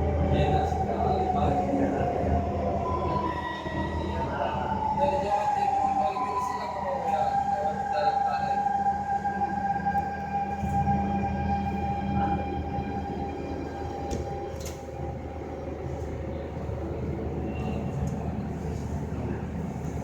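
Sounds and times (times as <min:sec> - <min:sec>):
metro train rumble: 0:00.0 - 0:20.0
train whine: 0:00.0 - 0:20.0.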